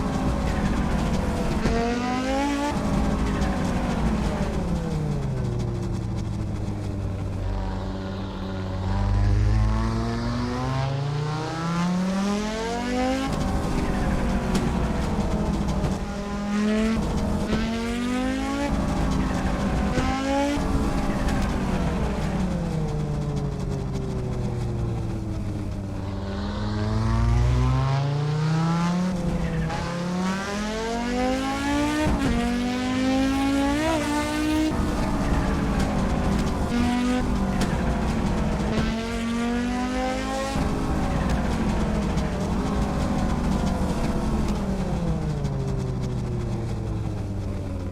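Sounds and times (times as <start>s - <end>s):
car engine accelerating hard: 0.0s - 47.9s.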